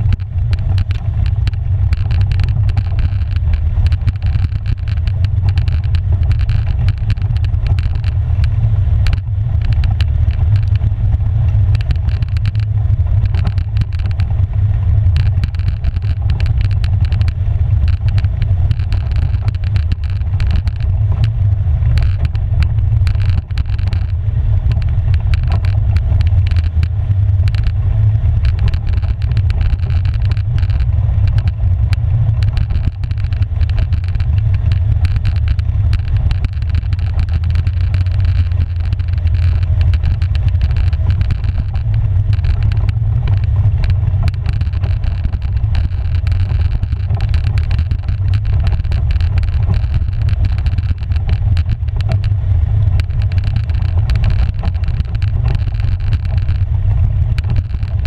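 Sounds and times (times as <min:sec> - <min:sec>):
atv engine running: 0:00.0 - 0:58.0
clicks and rattles: 0:00.0 - 0:58.0.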